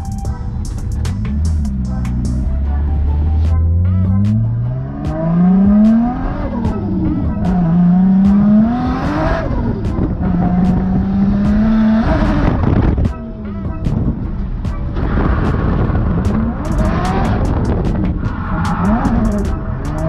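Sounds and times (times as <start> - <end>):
music beat: 0.0 - 20.0
car engine revving: 0.7 - 20.0.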